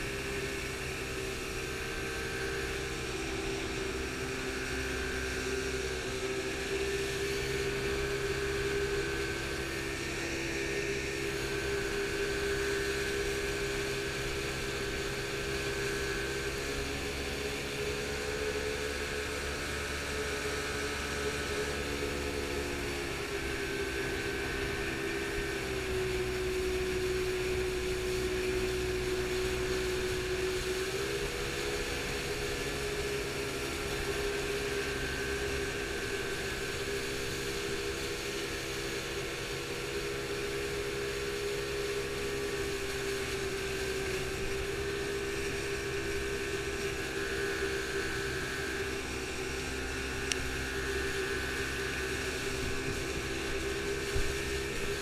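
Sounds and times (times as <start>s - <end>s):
boat engine droning: 0.0s - 55.0s
rushing water: 0.0s - 55.0s.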